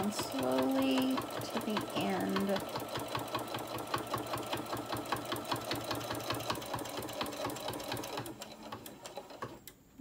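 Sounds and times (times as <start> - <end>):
sewing machine stitching: 0.0 - 9.7.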